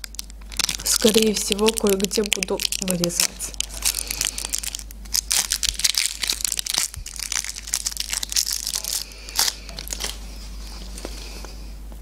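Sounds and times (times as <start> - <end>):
wrapper film crinkling: 0.0 - 11.3.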